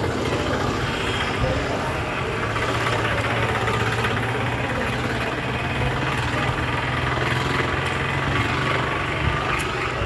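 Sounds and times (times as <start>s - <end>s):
road and wind noise: 0.0s - 10.0s
vehicle engine humming: 0.0s - 10.0s.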